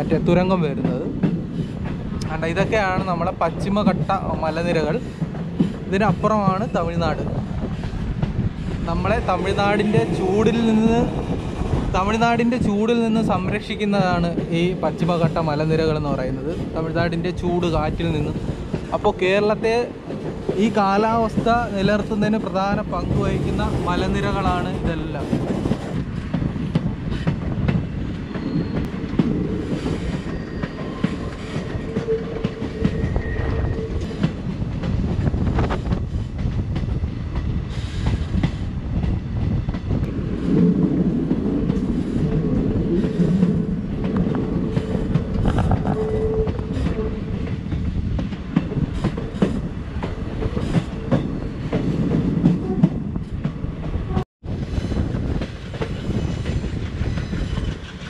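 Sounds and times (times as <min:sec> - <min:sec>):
low rumble of wheels on rails: 0:00.0 - 0:58.0.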